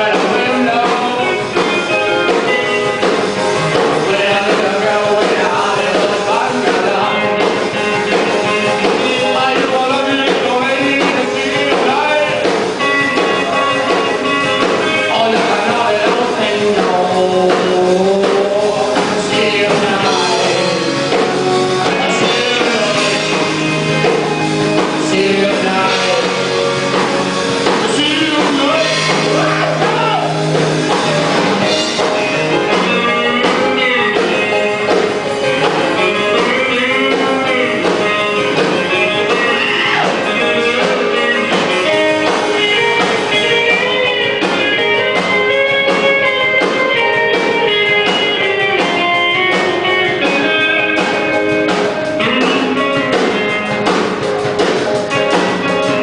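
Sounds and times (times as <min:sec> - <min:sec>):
person singing: 0:00.0 - 0:56.0
rock band playing: 0:00.0 - 0:56.0.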